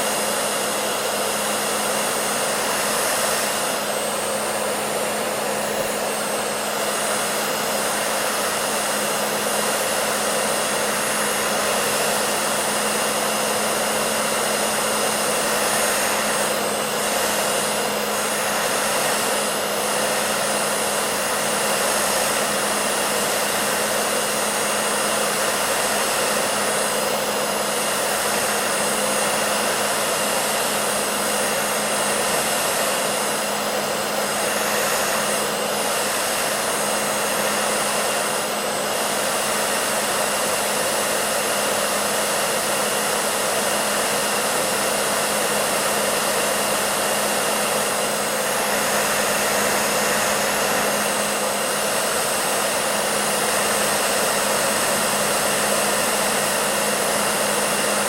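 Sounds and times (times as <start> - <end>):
hair dryer blowing air: 0.0 - 58.0
motor hum: 0.0 - 58.0.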